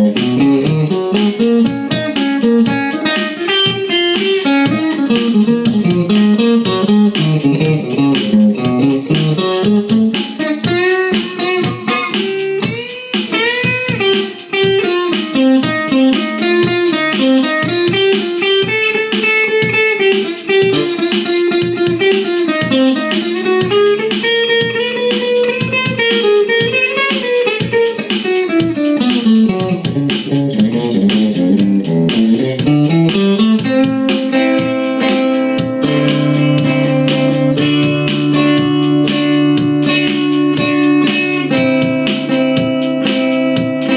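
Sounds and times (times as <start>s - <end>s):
blues guitar playing: 0.0s - 43.9s.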